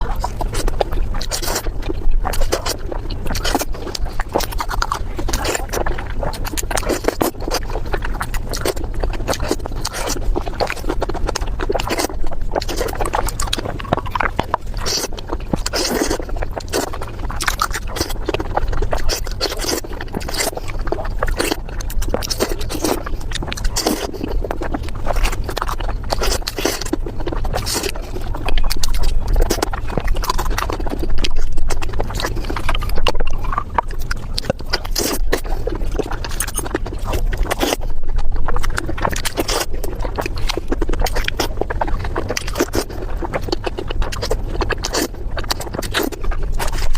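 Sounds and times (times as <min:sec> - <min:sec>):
chewing and biting food: 0:00.0 - 0:46.9.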